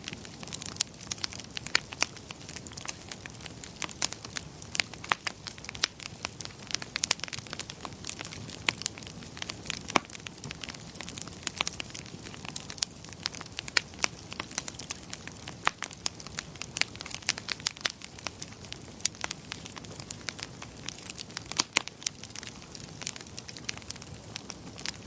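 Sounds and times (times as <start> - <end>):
wood fire popping and snapping: 0.0 - 25.0.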